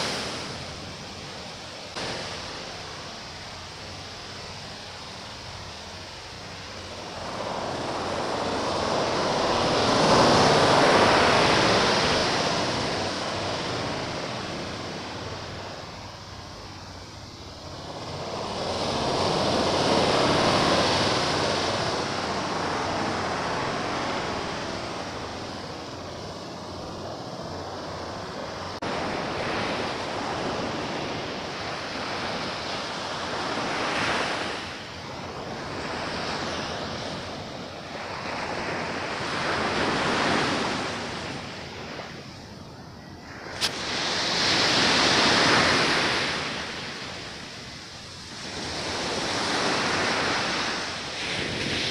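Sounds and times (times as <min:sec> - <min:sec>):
sea waves breaking on shore: 0:00.0 - 0:42.6, 0:43.2 - 0:51.9.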